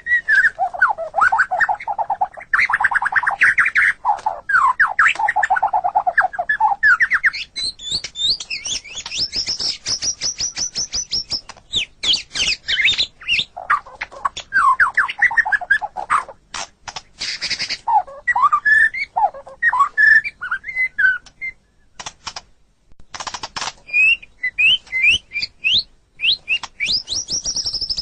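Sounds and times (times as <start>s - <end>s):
songbird singing: 0.0s - 22.5s, 23.4s - 28.0s.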